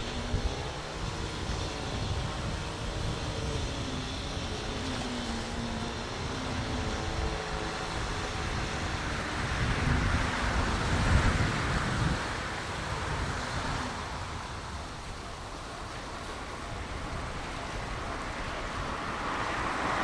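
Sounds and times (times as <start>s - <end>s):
vehicle passing: 0.0s - 20.0s
wind rumble on microphone: 0.0s - 20.0s.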